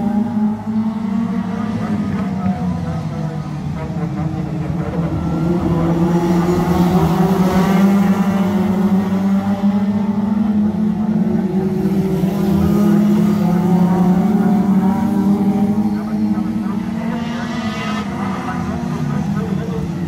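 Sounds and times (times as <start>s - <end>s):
race car engines passing: 0.0s - 20.0s.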